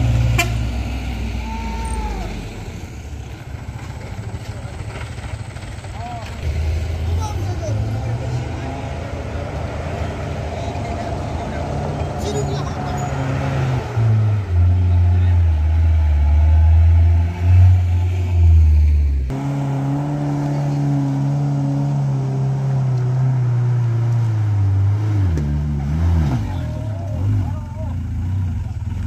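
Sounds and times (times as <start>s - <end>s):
truck engine labouring: 0.0s - 29.0s.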